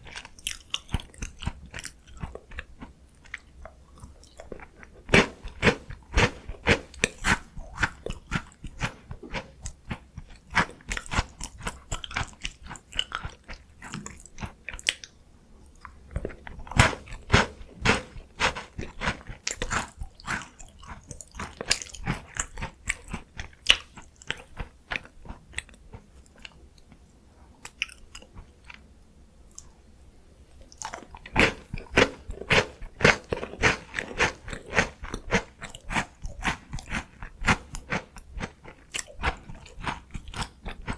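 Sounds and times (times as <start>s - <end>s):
biscuits crunching: 0.0s - 15.1s, 15.8s - 26.9s, 30.7s - 40.9s
wet chewing: 0.0s - 15.1s, 15.8s - 26.9s, 30.7s - 40.9s.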